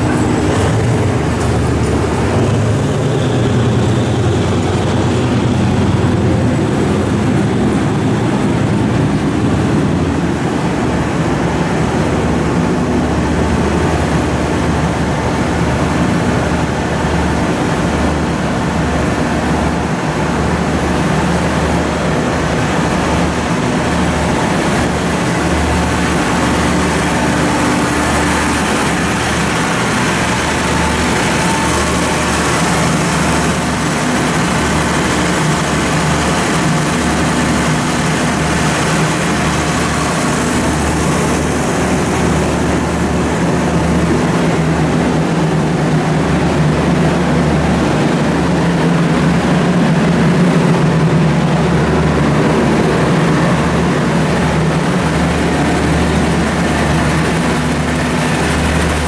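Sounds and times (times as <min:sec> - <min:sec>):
train rumble and hiss: 0:00.0 - 0:59.0.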